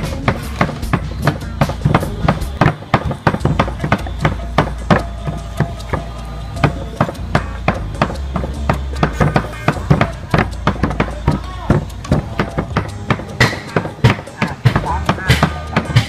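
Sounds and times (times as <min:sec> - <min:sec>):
cleaver chopping on wooden block: 0:00.0 - 0:16.0.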